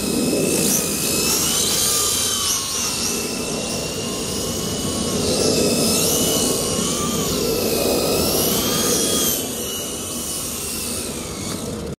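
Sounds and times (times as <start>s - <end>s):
electric motor whine: 0.0s - 12.0s
helicopter rotor noise: 0.0s - 12.0s.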